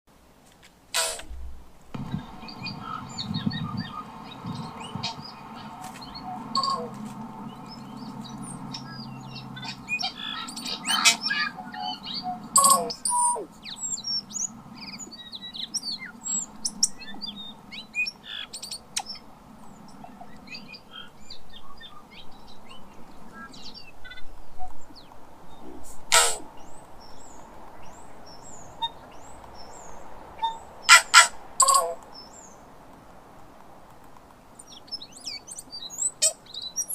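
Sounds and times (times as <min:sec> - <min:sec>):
bird singing: 0:02.0 - 0:32.6, 0:34.6 - 0:36.9.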